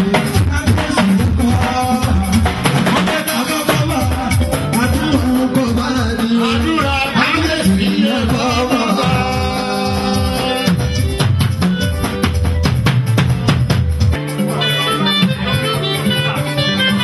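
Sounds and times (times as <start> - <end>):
drum and percussion music: 0.0 - 17.0.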